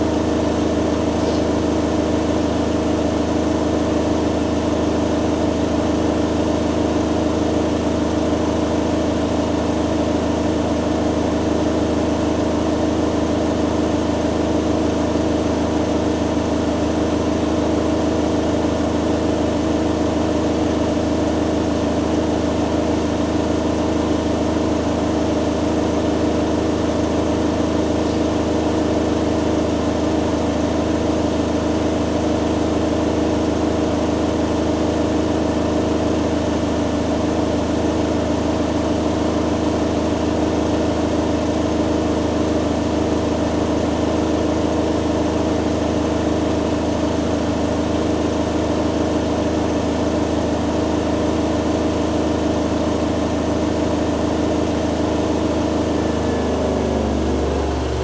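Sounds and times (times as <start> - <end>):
washing machine spinning hum: 0.0 - 58.0.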